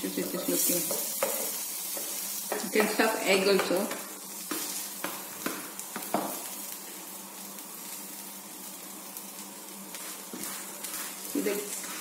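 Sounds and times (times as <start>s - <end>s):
bread sizzling in fat: 0.0s - 12.0s.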